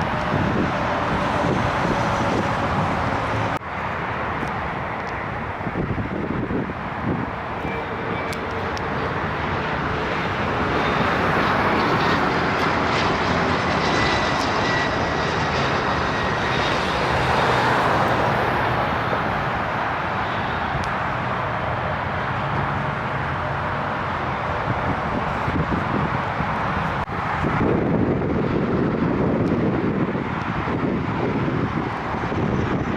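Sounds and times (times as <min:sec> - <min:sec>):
faint jet whine: 0:00.0 - 0:32.9
jet engine roar: 0:00.0 - 0:32.9.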